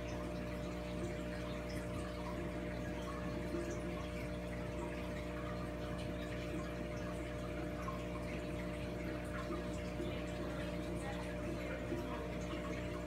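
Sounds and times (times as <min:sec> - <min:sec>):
aquarium pump humming: 0:00.0 - 0:13.0
water trickling and bubbling: 0:00.0 - 0:13.0.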